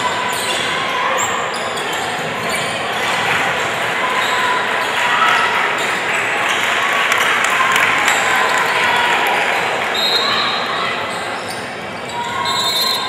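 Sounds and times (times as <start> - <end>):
echoing crowd chatter: 0.0 - 13.0.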